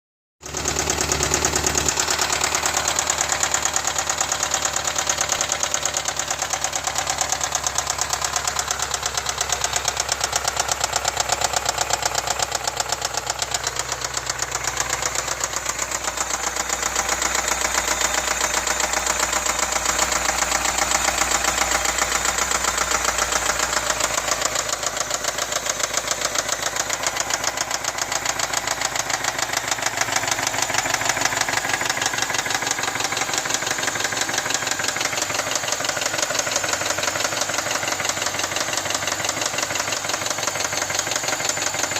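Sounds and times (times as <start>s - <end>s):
car engine knocking: 0.4s - 41.9s.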